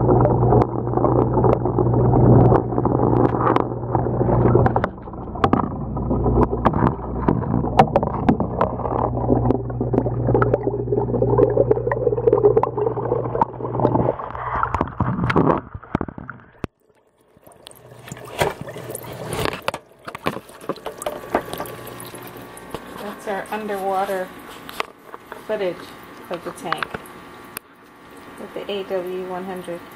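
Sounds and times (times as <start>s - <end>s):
muffled aquarium equipment hum: 0.0s - 15.7s, 16.6s - 29.9s
water splashing at surface: 0.0s - 29.8s
underwater bubbling and clicks: 0.0s - 29.9s.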